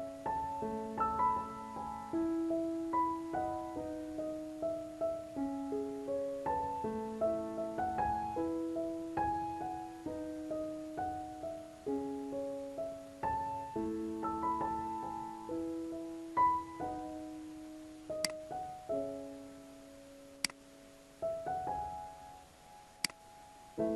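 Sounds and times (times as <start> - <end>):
gentle piano music: 0.0 - 23.9.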